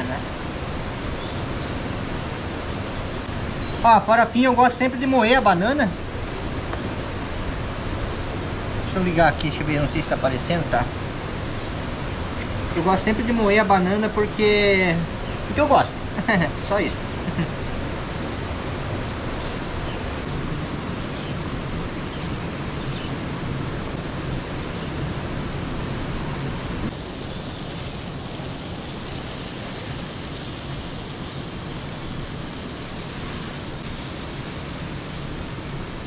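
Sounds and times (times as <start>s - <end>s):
outdoor rushing hiss: 0.0s - 36.0s.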